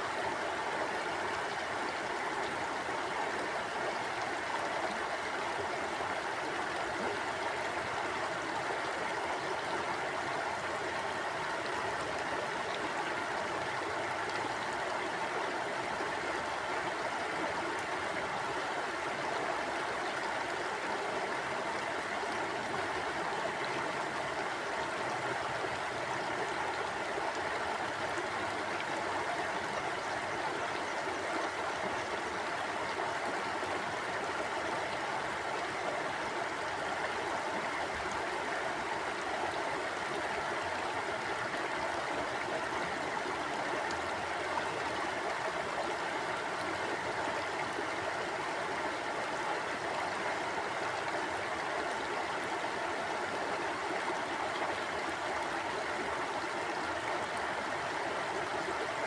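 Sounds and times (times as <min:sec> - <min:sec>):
river water flowing over stones: 0:00.0 - 0:59.0.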